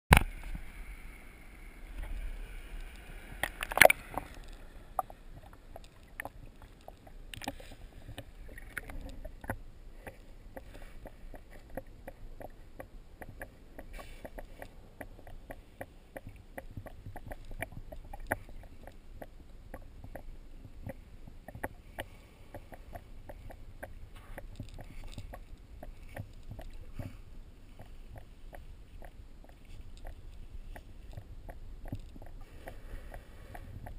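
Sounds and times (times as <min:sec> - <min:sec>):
faint clicks and crackles: 0:01.7 - 0:33.9.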